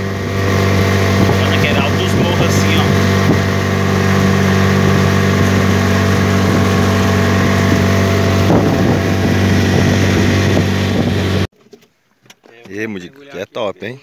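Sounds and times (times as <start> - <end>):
outboard motor running: 0.0 - 11.5
water rushing past hull: 0.0 - 11.5
wind on microphone: 0.0 - 11.5.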